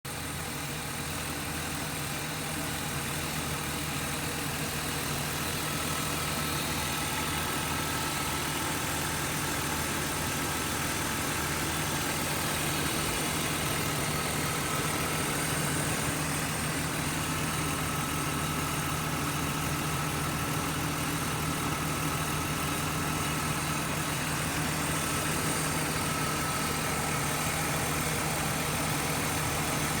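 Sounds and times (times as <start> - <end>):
car engine idling: 0.1 - 30.0.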